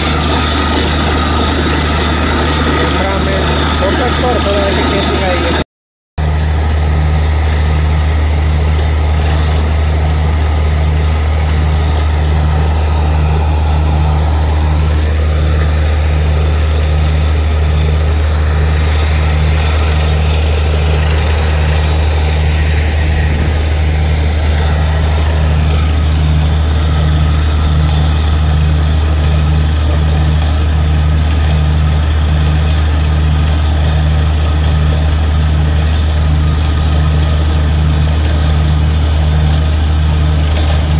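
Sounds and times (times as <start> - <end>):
drilling rig engine running: 0.0 - 5.6, 6.2 - 40.9.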